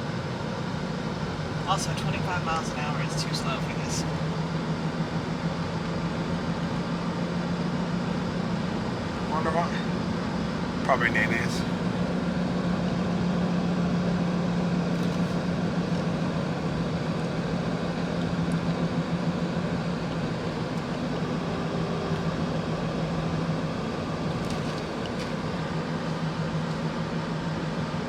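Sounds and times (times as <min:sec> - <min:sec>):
car engine hum: 0:00.0 - 0:28.0.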